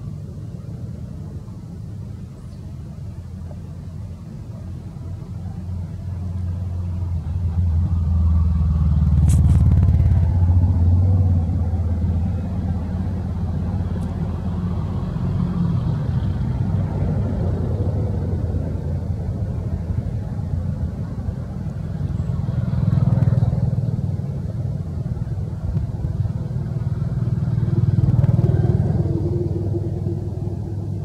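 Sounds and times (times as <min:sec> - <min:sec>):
passing vehicle engine rumble: 0:00.0 - 0:31.0.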